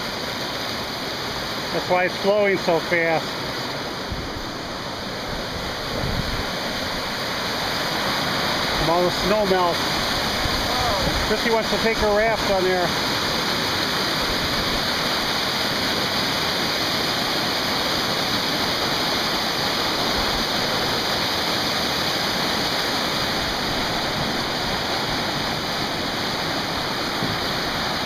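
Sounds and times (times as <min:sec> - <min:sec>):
river rushing through white water: 0:00.0 - 0:28.0.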